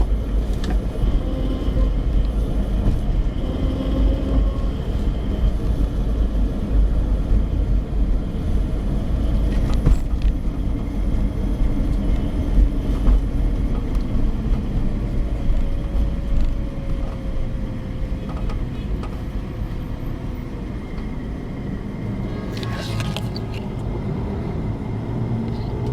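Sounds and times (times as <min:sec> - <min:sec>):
road and drivetrain rumble: 0:00.0 - 0:25.9.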